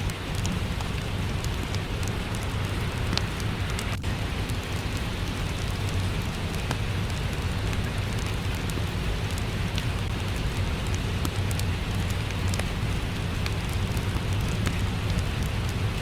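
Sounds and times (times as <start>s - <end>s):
rain hiss with low rumble: 0.0s - 16.0s
wood fire crackling: 0.0s - 16.0s.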